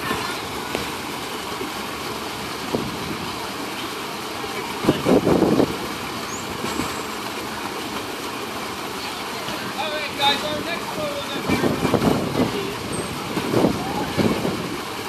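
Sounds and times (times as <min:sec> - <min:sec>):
crowd around a pool: 0:00.0 - 0:15.0.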